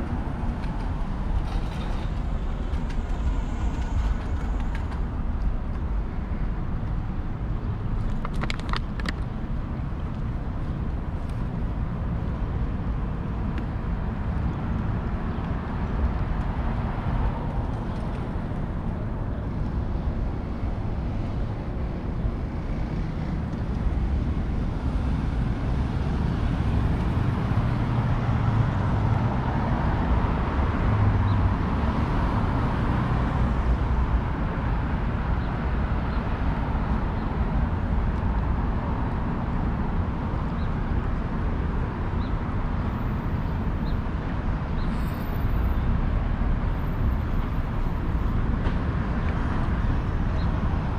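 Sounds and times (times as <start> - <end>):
passing cars rumble: 0.0 - 50.9.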